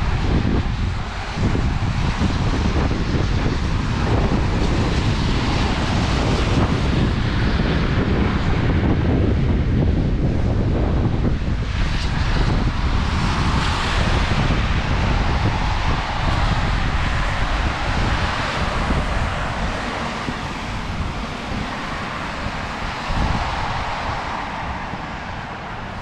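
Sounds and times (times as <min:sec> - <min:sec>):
wind buffeting microphones: 0:00.0 - 0:26.0.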